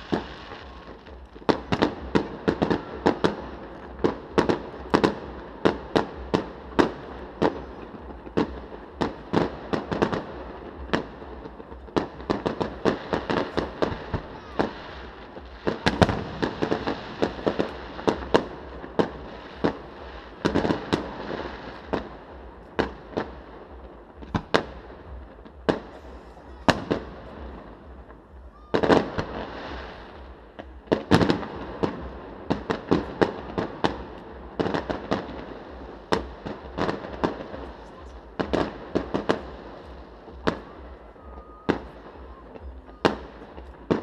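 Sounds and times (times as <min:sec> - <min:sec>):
fireworks bursting with bangs: 0:00.0 - 0:44.0
fireworks crackle: 0:00.0 - 0:44.0.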